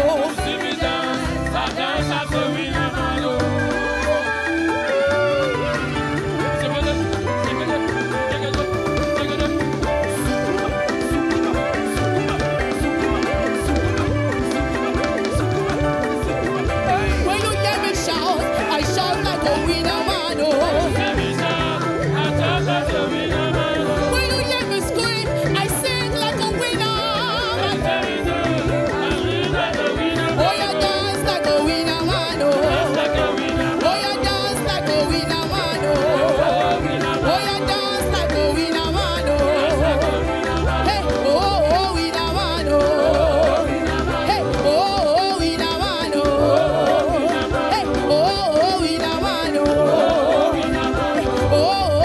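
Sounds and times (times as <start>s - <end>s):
bass line: 0.0s - 52.0s
drums steady beat: 0.0s - 52.0s
wavering lead melody: 0.0s - 52.0s.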